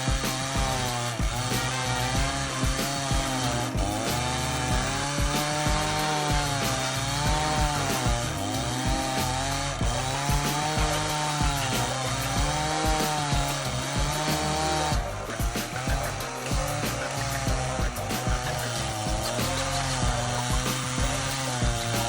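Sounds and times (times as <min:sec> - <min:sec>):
background music with beat: 0:00.0 - 0:22.0
chainsaw grinding stump: 0:00.0 - 0:22.0.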